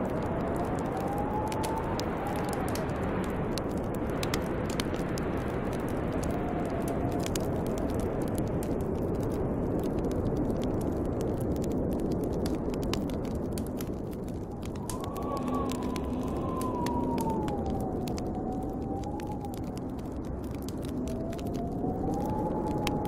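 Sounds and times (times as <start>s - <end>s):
snowstorm wind rushing: 0.0s - 23.0s
wood fire crackling: 0.0s - 23.0s.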